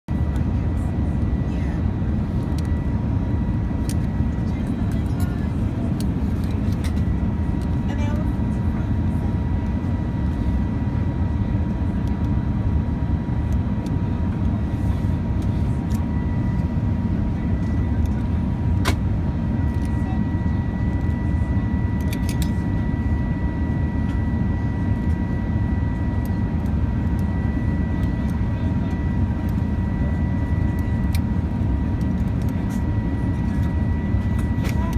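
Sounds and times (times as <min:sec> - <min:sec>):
airliner cabin roar: 0:00.1 - 0:34.9
faint steady whine: 0:00.1 - 0:34.9.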